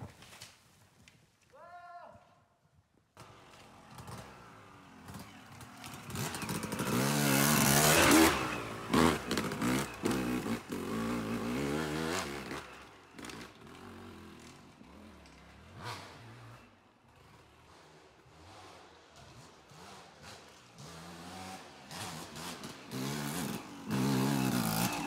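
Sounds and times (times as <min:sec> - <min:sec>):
dirt bike engine revving: 0:03.2 - 0:25.0.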